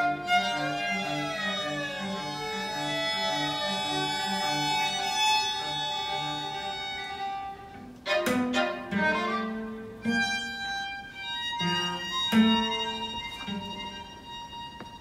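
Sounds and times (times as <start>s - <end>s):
string quartet playing: 0.0s - 15.0s.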